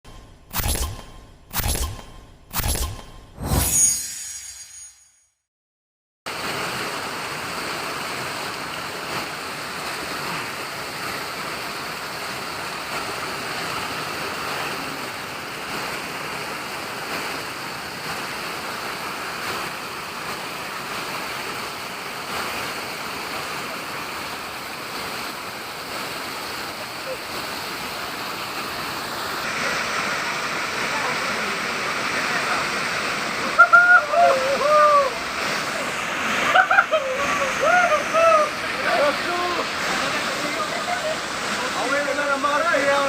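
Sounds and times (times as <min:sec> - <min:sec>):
waterfall rushing: 0:06.3 - 0:43.0.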